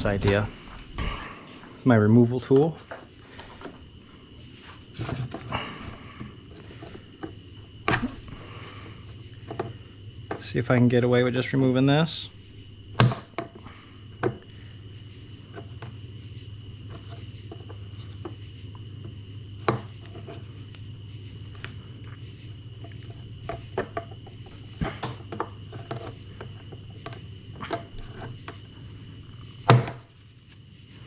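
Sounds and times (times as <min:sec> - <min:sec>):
steady high whine: 0:00.0 - 0:31.0
steady low hum: 0:00.0 - 0:31.0.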